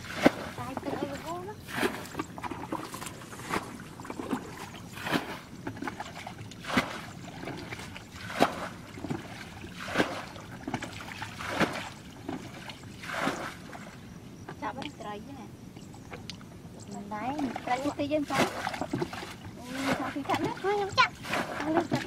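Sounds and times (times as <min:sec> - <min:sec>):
muddy water sloshing and splashing: 0:00.0 - 0:15.0, 0:16.0 - 0:22.0.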